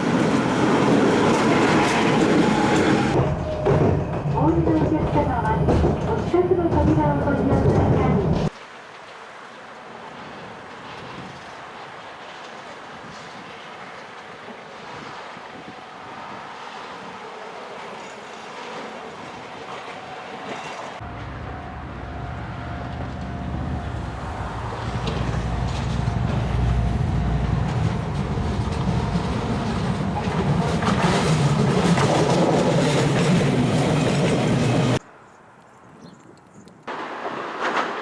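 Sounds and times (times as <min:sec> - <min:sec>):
tram running on rails: 0:00.0 - 0:35.1, 0:36.9 - 0:38.0.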